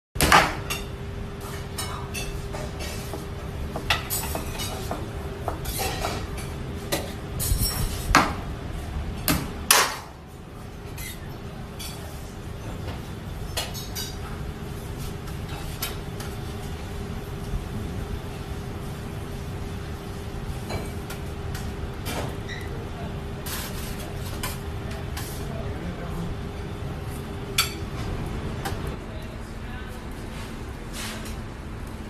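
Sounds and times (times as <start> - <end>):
kitchen hum: 0.2 - 32.0.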